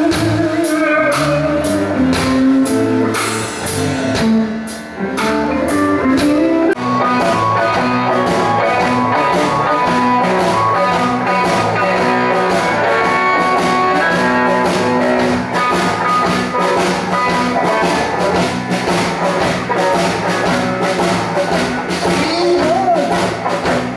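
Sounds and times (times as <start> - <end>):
drum beat: 0.0 - 23.9
electric guitar lines: 0.0 - 23.9.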